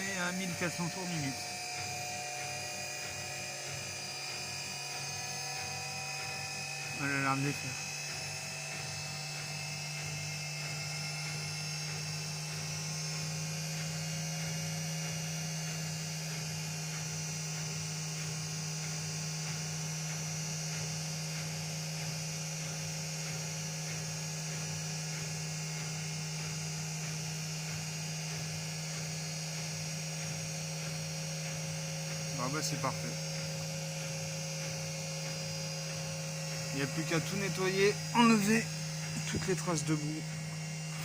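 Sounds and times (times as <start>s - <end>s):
washing machine spinning: 0.0s - 41.0s.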